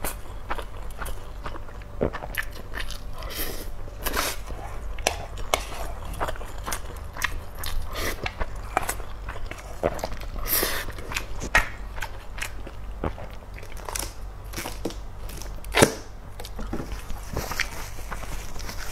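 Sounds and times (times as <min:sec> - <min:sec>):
chewing and mouth noises: 0:00.0 - 0:15.7.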